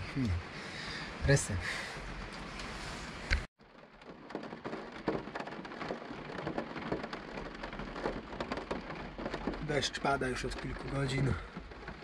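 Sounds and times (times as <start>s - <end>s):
rain pattering on a roof: 0.0s - 12.0s.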